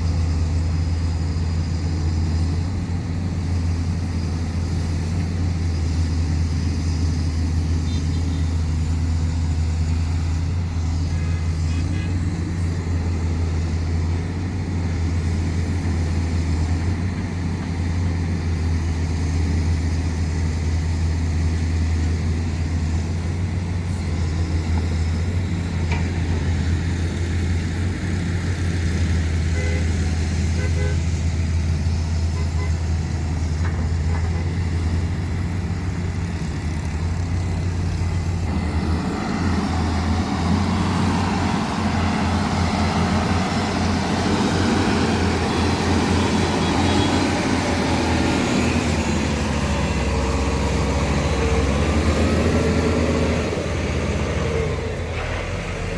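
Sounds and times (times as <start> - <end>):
excavator diesel engine humming: 0.0 - 55.9.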